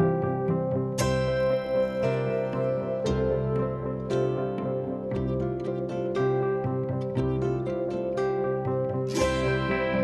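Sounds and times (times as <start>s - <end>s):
plucked-string music: 0.0s - 10.0s.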